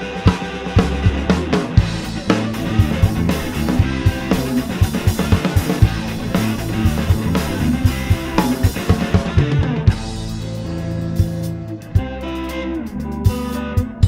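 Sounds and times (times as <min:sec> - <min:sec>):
bass guitar: 0:00.0 - 0:14.0
drum kit beat: 0:00.0 - 0:14.0
guitar: 0:00.0 - 0:14.0.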